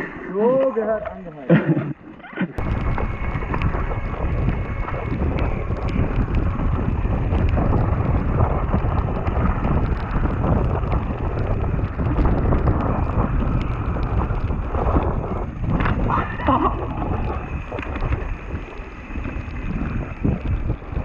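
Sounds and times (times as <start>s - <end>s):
small clicks and rattles: 2.6s - 21.0s
tyres rolling on wet gravel: 2.6s - 21.0s
wind buffeting microphone: 2.6s - 21.0s.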